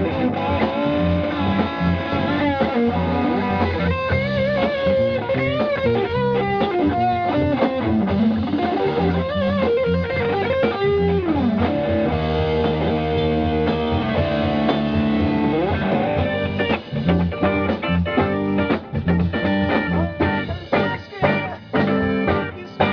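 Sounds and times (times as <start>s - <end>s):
bass guitar: 0.0s - 22.9s
drums: 0.0s - 22.9s
electric guitar with sliding notes: 0.0s - 22.9s.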